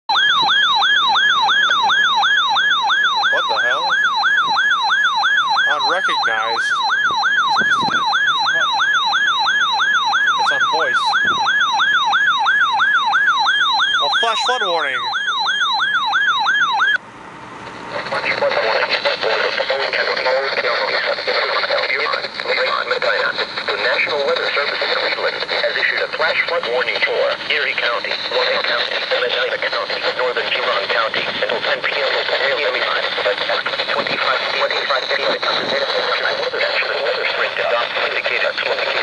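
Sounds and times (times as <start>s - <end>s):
electronic yelp siren: 0.1s - 17.0s, 18.0s - 39.0s.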